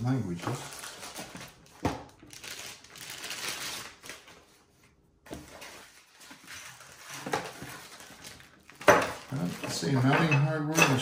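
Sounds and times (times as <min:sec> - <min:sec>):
plastic bag crinkling: 0:00.4 - 0:04.6, 0:05.5 - 0:10.0.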